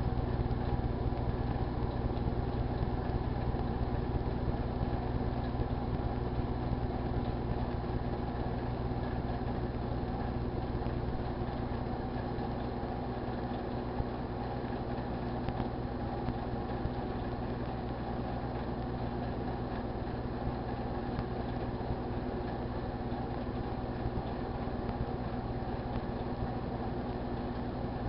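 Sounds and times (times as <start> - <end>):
microwave oven humming: 0.0 - 28.0.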